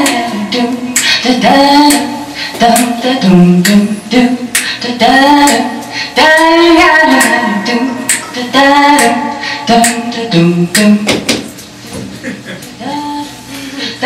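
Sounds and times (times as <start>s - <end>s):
woman singing unaccompanied: 0.0s - 11.3s, 12.8s - 14.0s.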